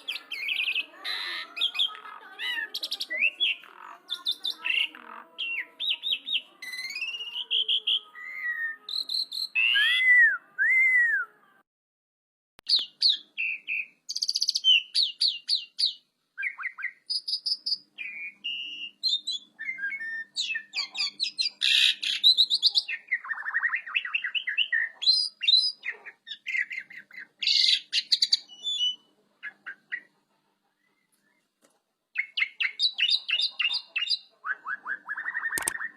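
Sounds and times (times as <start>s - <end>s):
starling singing: 0.0s - 11.1s, 12.7s - 30.2s, 32.2s - 35.9s.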